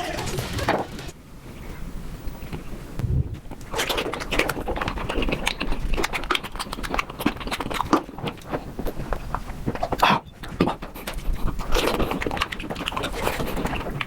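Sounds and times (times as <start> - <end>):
rapid crisp chewing clicks: 1.7 - 14.0.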